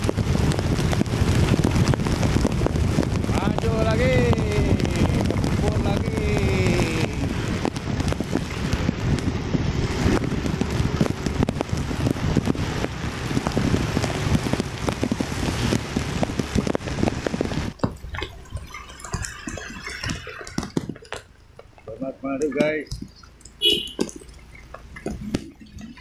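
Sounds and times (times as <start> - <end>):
raindrops ticking on microphone: 0.0 - 26.0
rushing rain noise: 0.0 - 26.0.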